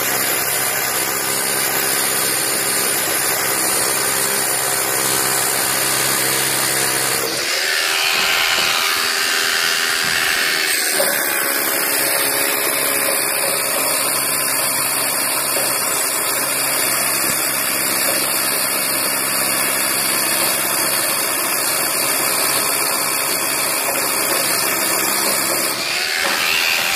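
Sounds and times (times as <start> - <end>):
hammer drill boring into masonry: 0.0 - 26.9.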